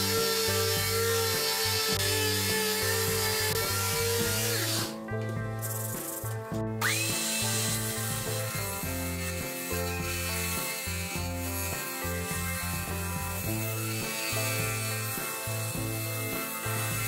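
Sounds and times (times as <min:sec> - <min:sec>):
background music: 0:00.0 - 0:17.0
disc sander grinding: 0:00.0 - 0:17.0.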